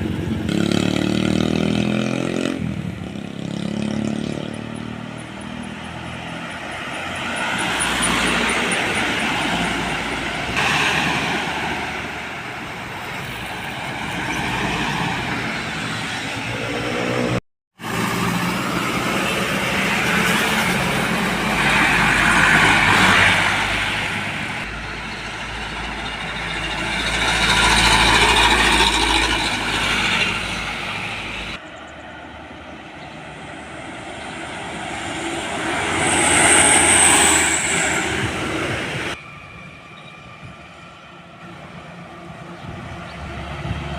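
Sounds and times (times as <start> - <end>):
road vehicles passing: 0.0 - 43.9.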